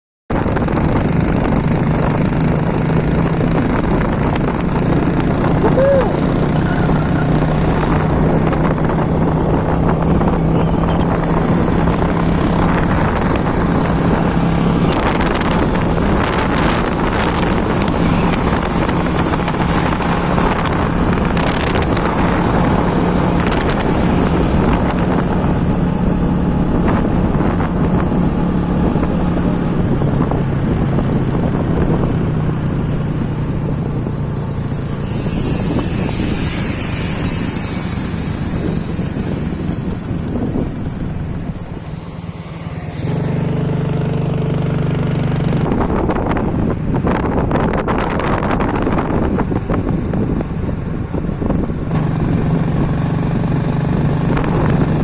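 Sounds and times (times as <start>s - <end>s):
loud rush of noise: 0.3s - 55.0s
motorbike engine hum: 0.3s - 55.0s.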